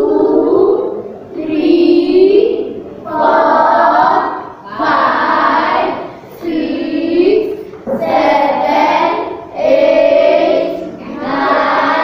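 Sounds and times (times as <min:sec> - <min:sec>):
children counting aloud in unison: 0:00.0 - 0:12.0.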